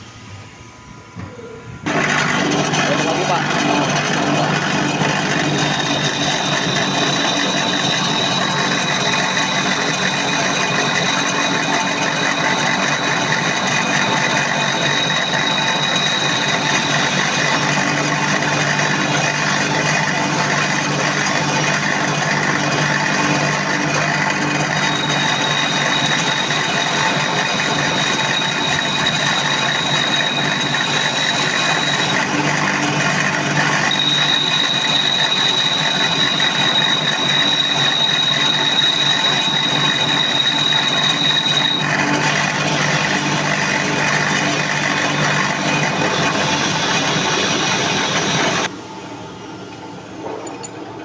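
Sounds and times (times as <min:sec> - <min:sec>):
lathe machine hum: 0:00.0 - 0:49.5
high-pitched whine: 0:00.0 - 0:50.7.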